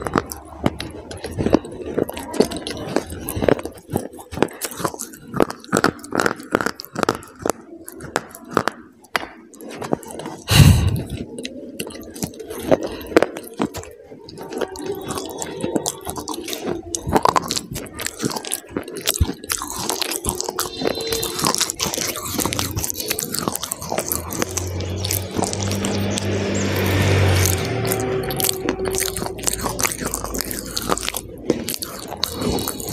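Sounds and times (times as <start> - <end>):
biting and crunching brittle sticks: 0.0 - 32.9
chewing: 0.0 - 32.9.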